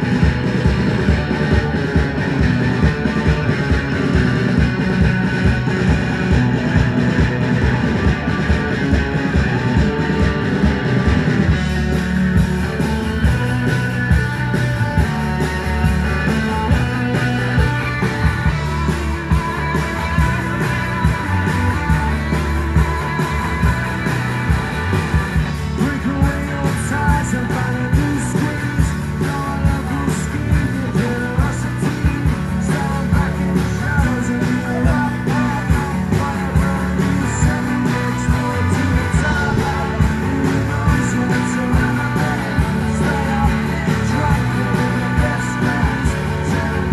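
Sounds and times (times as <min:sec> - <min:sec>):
bass guitar: 0:00.0 - 0:46.9
drums on a steady beat: 0:00.0 - 0:46.9
electric guitars: 0:00.0 - 0:46.9.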